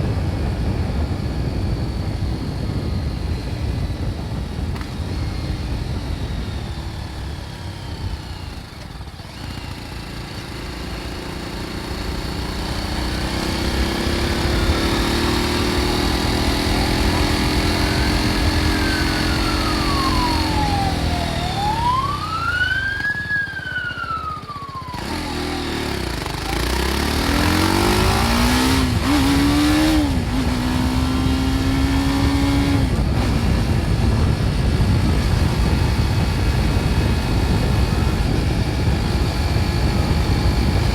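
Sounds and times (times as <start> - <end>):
wind rush: 0.0 - 8.7, 12.6 - 40.9
motorcycle engine revving: 0.0 - 40.9.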